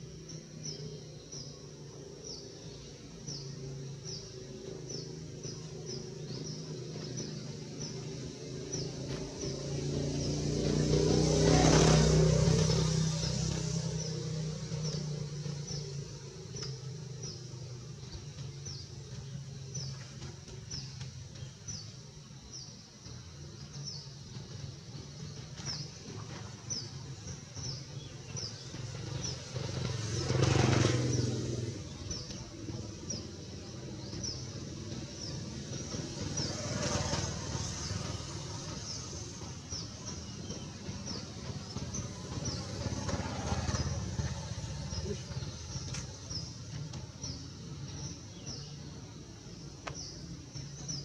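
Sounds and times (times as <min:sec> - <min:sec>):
traffic drone: 0:00.0 - 0:51.0
vehicle passing: 0:02.2 - 0:21.8, 0:23.8 - 0:51.0.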